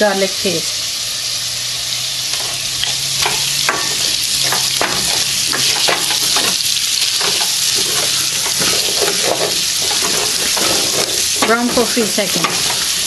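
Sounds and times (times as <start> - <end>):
potatoes sizzling in hot oil: 0.0 - 13.0
wooden spoon scraping a pot: 2.3 - 13.0.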